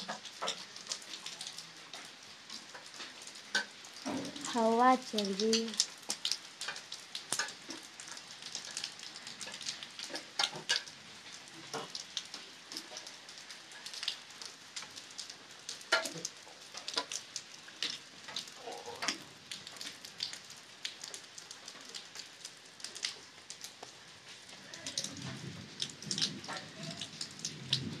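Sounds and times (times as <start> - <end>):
water dripping on leaves: 0.0 - 28.0.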